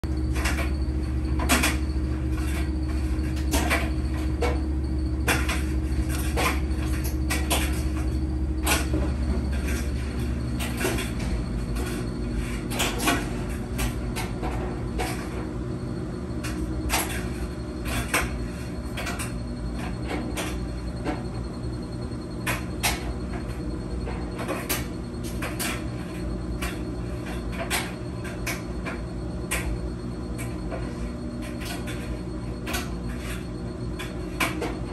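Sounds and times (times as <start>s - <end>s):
laundry machine motor hum: 0.0s - 34.9s.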